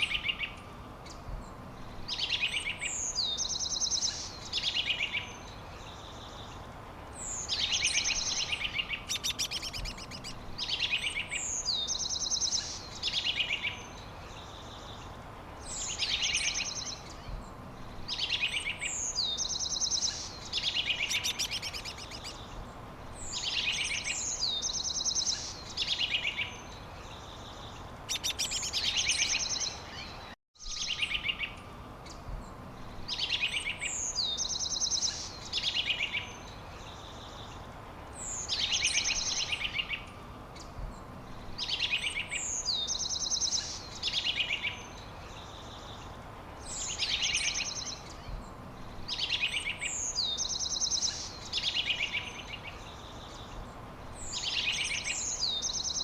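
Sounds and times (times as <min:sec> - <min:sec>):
birds singing trills and chirps: 0:00.0 - 0:56.0
steady background hiss: 0:00.0 - 0:56.0.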